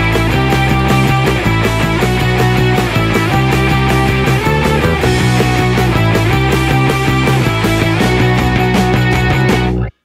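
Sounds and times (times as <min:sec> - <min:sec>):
rock music with guitar: 0:00.0 - 0:10.0.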